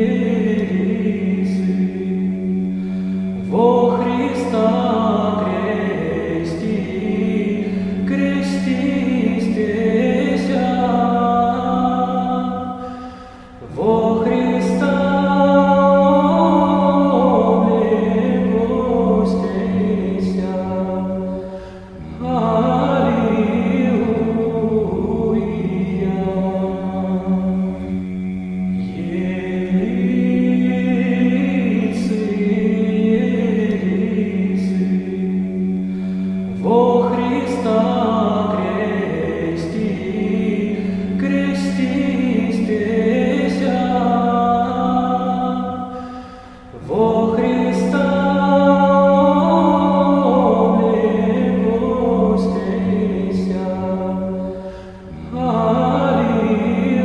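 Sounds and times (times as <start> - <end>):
choir singing a slow chant: 0.0 - 57.0
held low drone note: 0.0 - 57.0.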